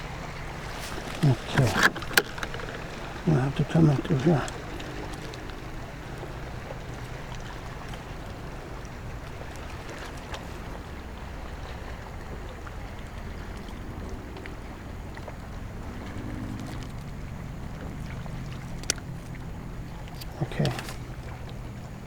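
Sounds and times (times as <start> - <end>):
water noise: 0.0 - 22.0
wind: 0.0 - 22.0.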